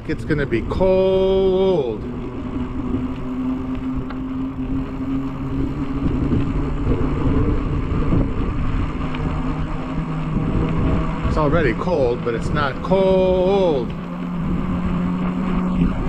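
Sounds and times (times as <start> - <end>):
bicycle tyres rolling on road: 0.0 - 16.0
wind on microphone: 0.0 - 16.0.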